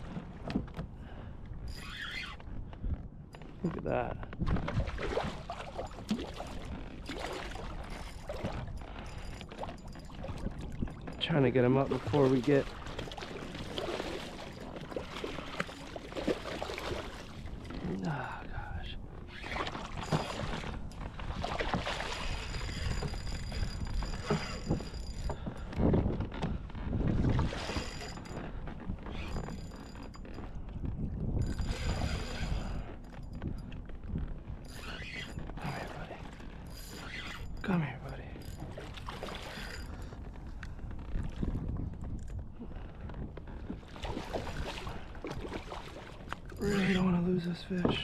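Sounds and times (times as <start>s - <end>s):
water splashing and gurgling: 3.5s - 30.4s, 34.7s - 42.8s, 43.5s - 48.0s.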